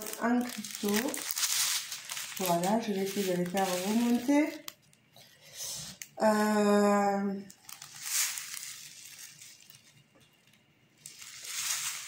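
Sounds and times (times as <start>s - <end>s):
plastic packets of crystals rustling: 0.0s - 5.3s, 7.3s - 12.0s.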